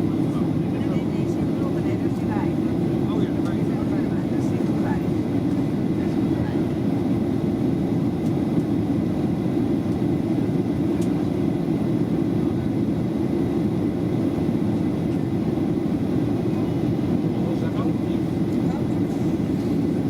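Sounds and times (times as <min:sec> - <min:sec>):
airflow over fuselage: 0:00.0 - 0:20.0
jet engines droning: 0:00.0 - 0:20.0.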